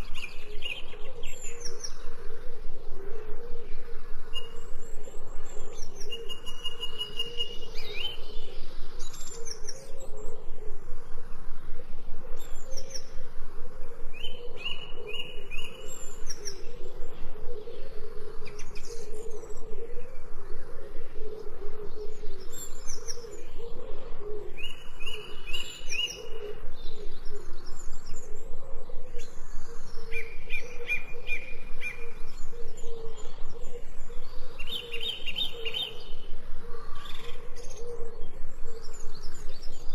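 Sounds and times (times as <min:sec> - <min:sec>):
low wavering hum: 0:00.0 - 0:39.9
songbirds chirping: 0:00.0 - 0:39.9.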